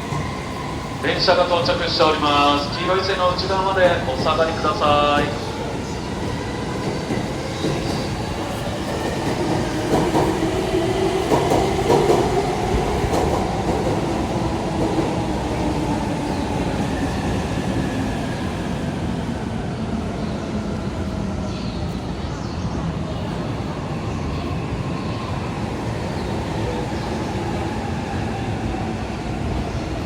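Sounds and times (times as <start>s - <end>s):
train rumbling and rattling: 0.0s - 30.0s.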